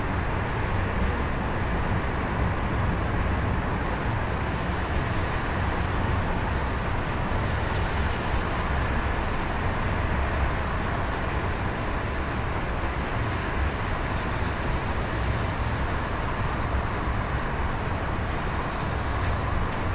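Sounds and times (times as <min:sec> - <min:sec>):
city road traffic hum: 0:00.0 - 0:19.9.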